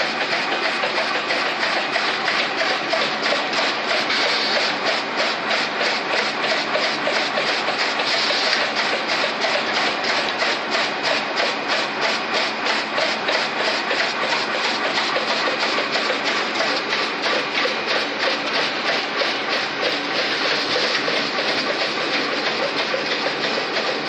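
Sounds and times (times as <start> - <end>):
packing machine rhythmic clatter: 0.0 - 24.0.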